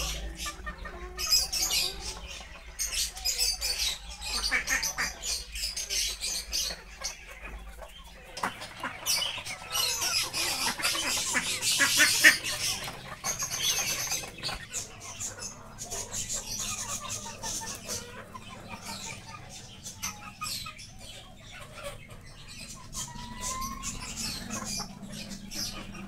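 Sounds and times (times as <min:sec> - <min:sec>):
hens clucking: 0:00.0 - 0:26.0
small cage birds chirping: 0:00.0 - 0:26.0.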